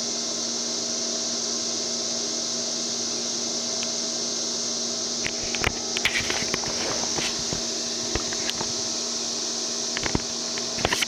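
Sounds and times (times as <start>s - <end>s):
cicadas chorus: 0.0s - 11.0s
low mechanical hum: 0.0s - 11.0s.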